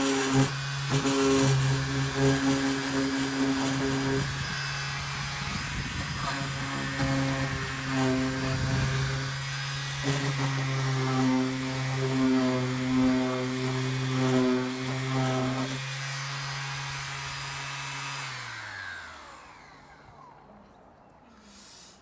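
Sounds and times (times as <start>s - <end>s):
angle grinder cutting sheet metal: 0.0s - 19.2s.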